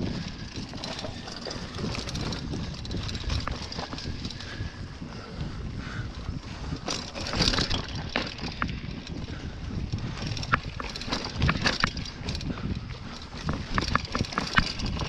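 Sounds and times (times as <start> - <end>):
bike rattling over rocks: 0.0 - 15.0
wind rumble on microphone: 0.0 - 15.0.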